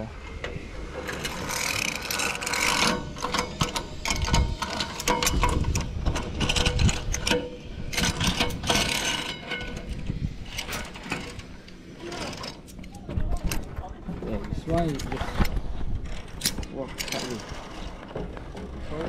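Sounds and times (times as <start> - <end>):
metal gear clicking and rattling: 1.1 - 18.0.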